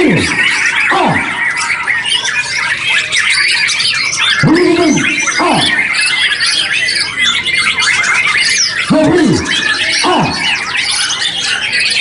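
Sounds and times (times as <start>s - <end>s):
birds singing in chorus: 0.0s - 12.0s.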